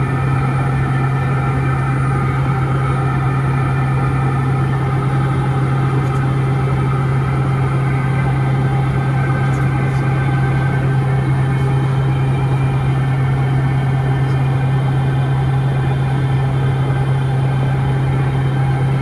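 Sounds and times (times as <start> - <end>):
turboprop cabin drone: 0.0 - 19.0.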